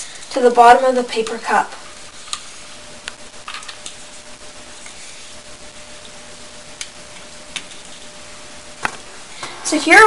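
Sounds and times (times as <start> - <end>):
low hum: 1.7 - 9.9.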